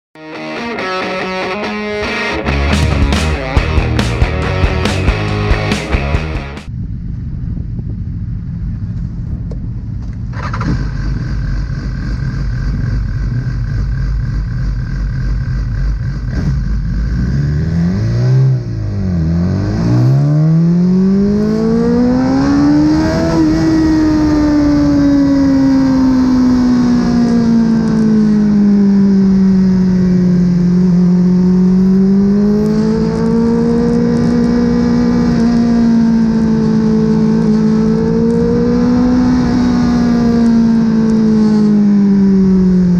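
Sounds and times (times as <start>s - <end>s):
motorcycle engine revving: 0.5s - 6.7s, 10.2s - 42.9s.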